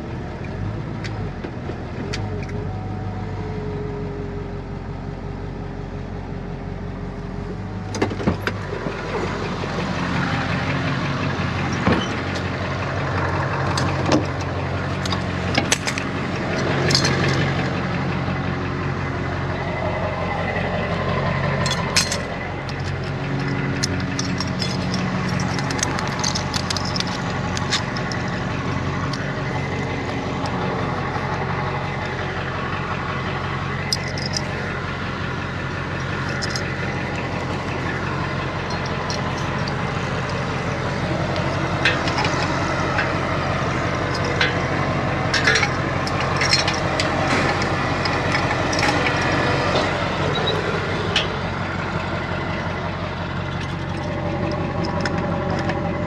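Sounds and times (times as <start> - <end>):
truck engine idling: 0.0 - 56.0
metal clicks and clanks: 7.8 - 56.0.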